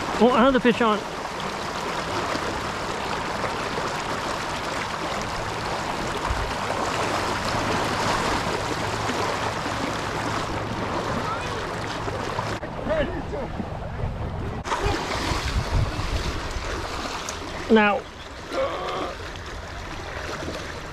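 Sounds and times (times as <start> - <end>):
river water rushing: 0.0 - 13.8, 14.6 - 20.9.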